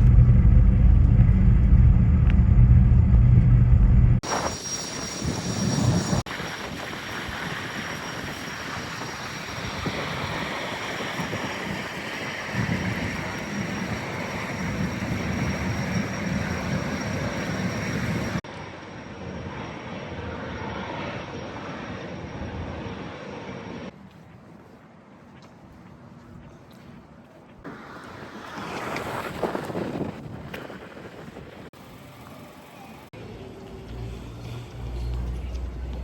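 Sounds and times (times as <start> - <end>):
ferry engines rushing with whine: 0.0 - 23.9, 27.2 - 36.0.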